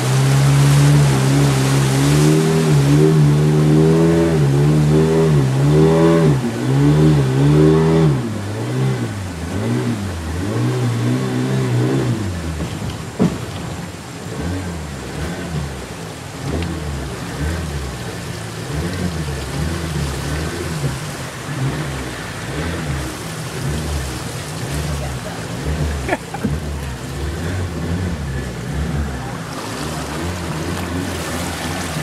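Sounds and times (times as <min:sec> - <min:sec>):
outboard motor running: 0:00.0 - 0:32.0
rushing water: 0:00.0 - 0:32.0.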